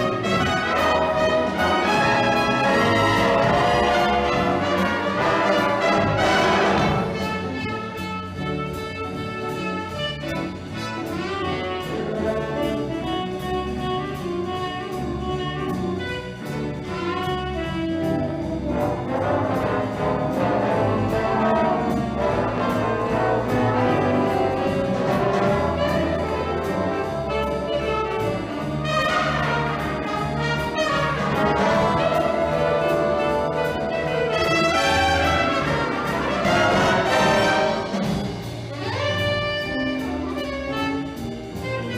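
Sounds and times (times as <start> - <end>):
big band swing music with brass: 0.0 - 41.9.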